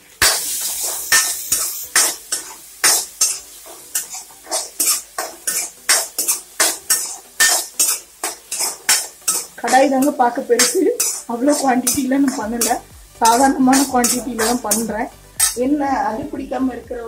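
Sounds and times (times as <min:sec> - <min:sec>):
oil sizzling: 0:00.0 - 0:17.0
spoon scraping metal pan: 0:00.2 - 0:15.7.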